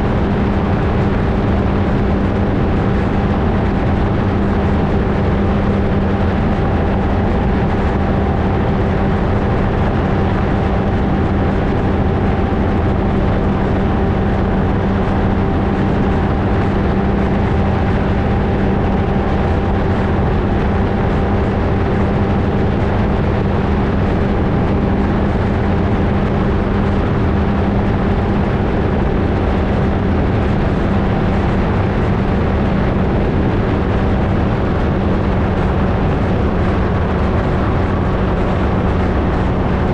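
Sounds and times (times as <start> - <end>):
aircraft engine droning: 0.0 - 39.9
wind rushing past microphone: 0.0 - 39.9.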